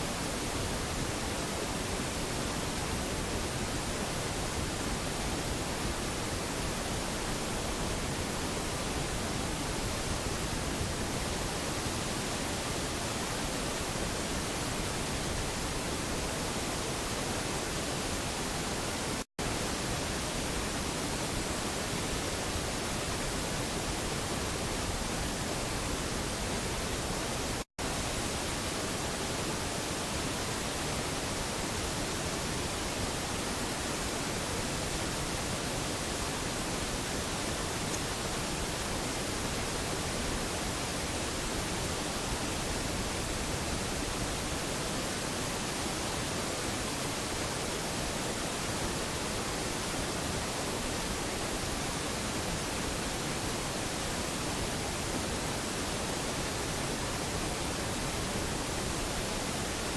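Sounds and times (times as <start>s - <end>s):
rushing floodwater: 0.0s - 59.9s.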